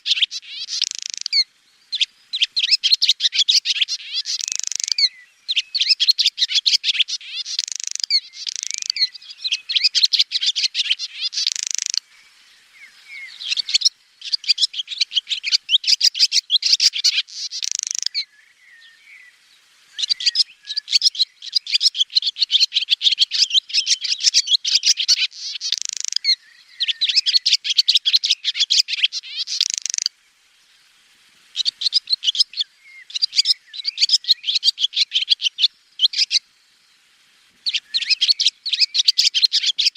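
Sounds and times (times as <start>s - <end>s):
swallow twittering: 0.0s - 19.3s, 20.0s - 30.1s, 31.5s - 36.4s, 37.6s - 39.9s.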